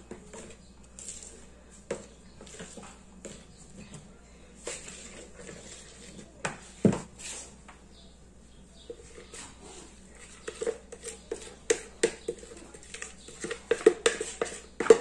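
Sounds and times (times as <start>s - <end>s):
utensil scraping a bowl: 0.0s - 4.0s, 4.6s - 7.6s, 8.8s - 15.0s.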